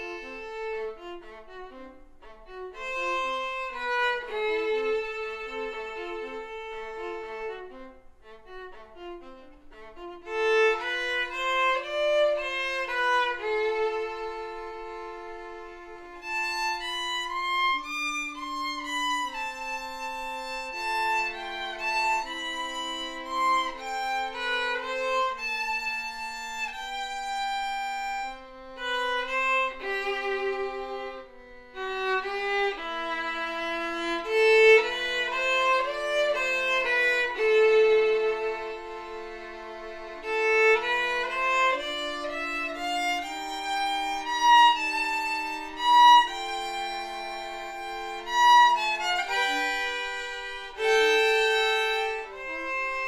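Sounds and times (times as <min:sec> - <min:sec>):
violin duet: 0:00.0 - 0:53.0.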